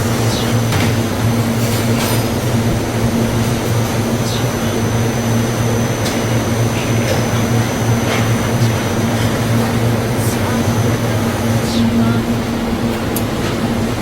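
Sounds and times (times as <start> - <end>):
sorting machinery humming: 0.0 - 14.0.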